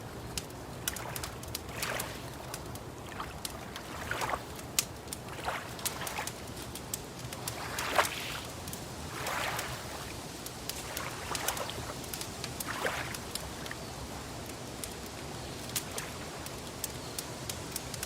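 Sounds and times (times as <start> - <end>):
water lapping: 0.0 - 17.0
wood fire crackling and popping: 0.0 - 18.0.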